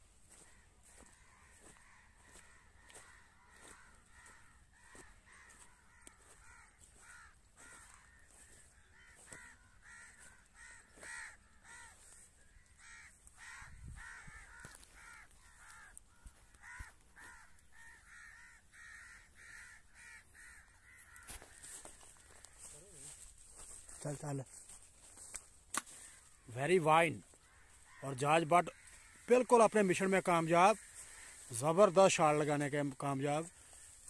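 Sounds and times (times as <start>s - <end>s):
faint bird calls: 0.0s - 34.0s.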